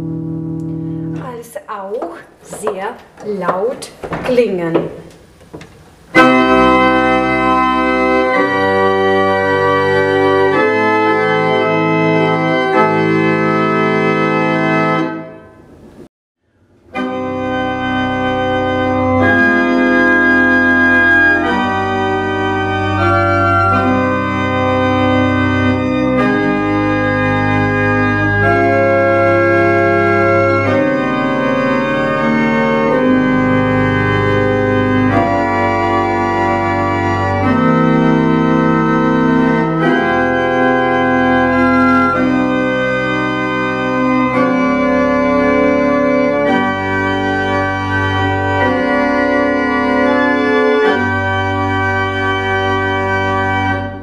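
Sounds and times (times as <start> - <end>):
pipe organ chords: 0.0 - 1.2, 4.7 - 54.0.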